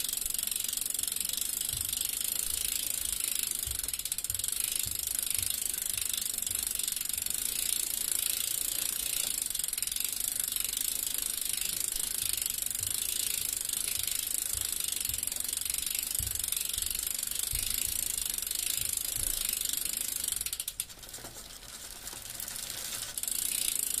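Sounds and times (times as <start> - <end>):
bicycle freewheel ticking: 0.0 - 24.0.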